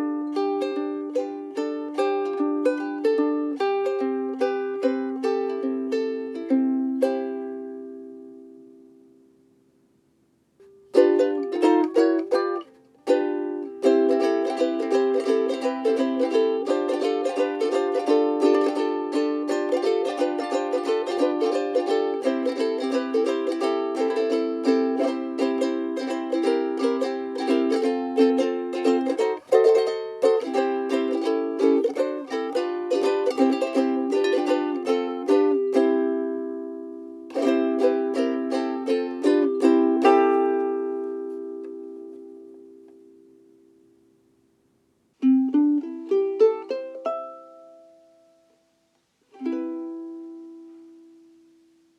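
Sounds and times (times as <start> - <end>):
ukulele plucked chords and melody: 0.0 - 9.7, 10.6 - 48.6, 49.3 - 51.9.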